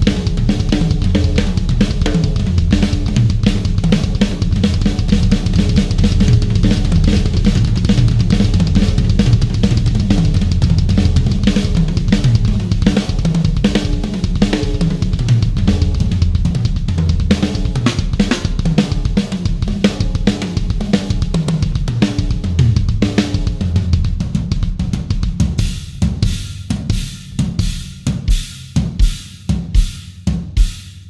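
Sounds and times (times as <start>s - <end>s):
drum kit playing a busy groove: 0.0s - 31.0s.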